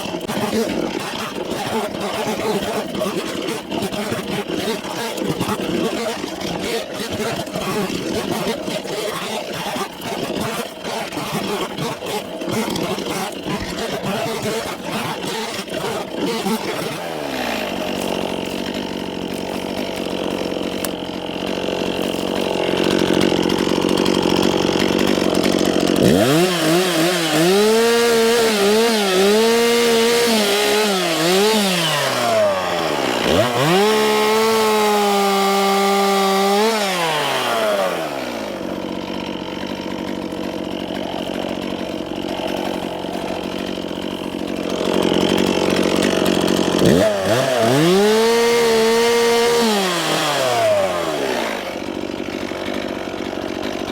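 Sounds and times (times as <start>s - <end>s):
chainsaw cutting wood: 0.0s - 53.9s
chainsaw idling and revving: 0.0s - 53.9s.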